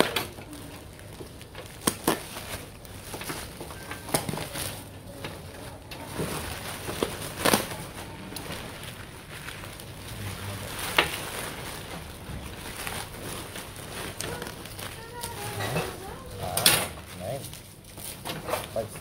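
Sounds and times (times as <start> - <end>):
bubble wrap rustling and crackling: 0.0 - 19.0.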